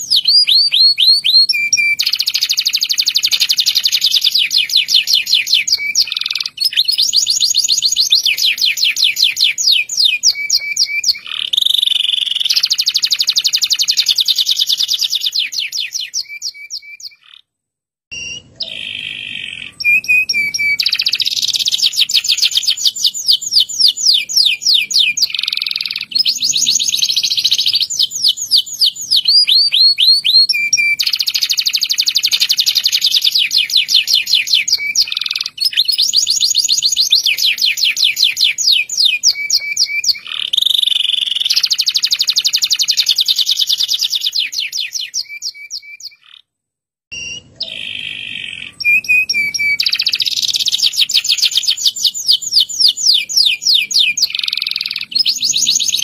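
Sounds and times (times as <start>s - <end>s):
canary singing trills: 0.0s - 17.5s, 18.1s - 46.5s, 47.1s - 56.0s.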